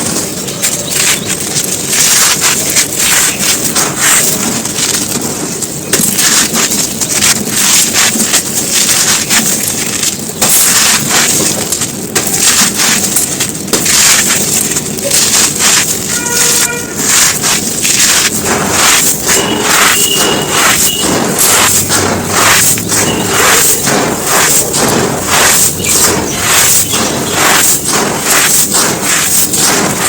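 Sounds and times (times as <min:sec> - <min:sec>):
dry chunks crunching: 0:00.0 - 0:30.0.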